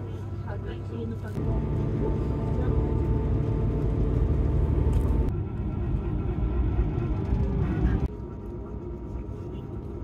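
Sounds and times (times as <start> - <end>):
train rumbling: 0.6 - 10.0.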